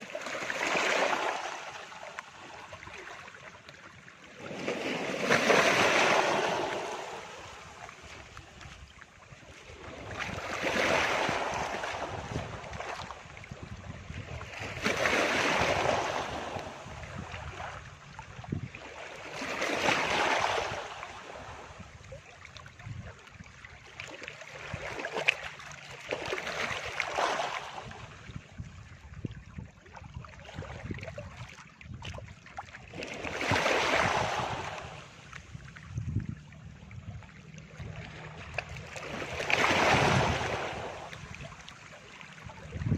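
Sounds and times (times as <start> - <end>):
waves breaking on a beach: 0.0 - 36.5, 37.4 - 42.9.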